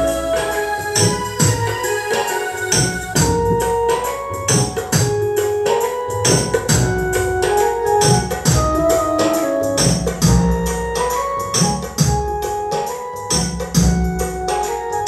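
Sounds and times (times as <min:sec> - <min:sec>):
music with drum beat and organ: 0:00.0 - 0:15.0.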